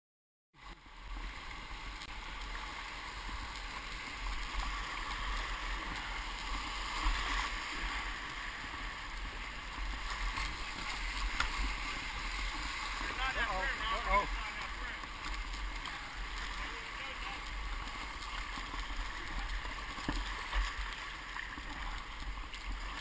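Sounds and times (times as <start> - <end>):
low rumble of water: 0.6 - 23.0
whitewater rushing: 1.8 - 23.0.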